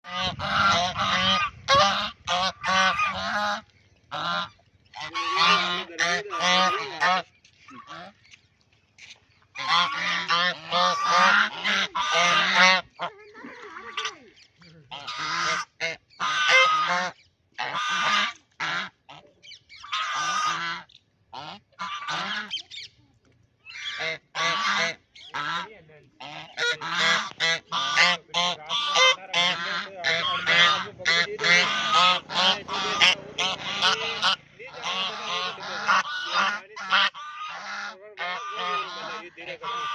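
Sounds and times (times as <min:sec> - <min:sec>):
waterfowl honking quacks: 0:00.0 - 0:08.4, 0:09.1 - 0:23.0, 0:23.7 - 0:39.9.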